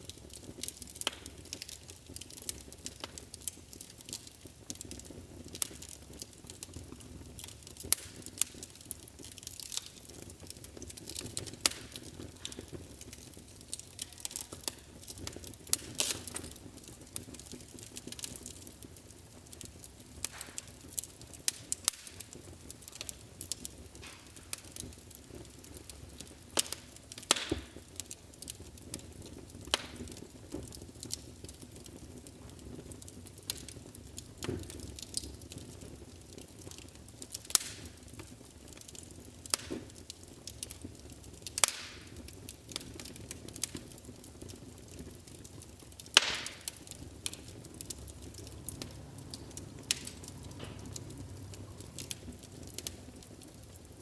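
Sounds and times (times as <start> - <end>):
hiss of flames: 0.0 - 54.0
wood fire crackling and popping: 0.0 - 54.0.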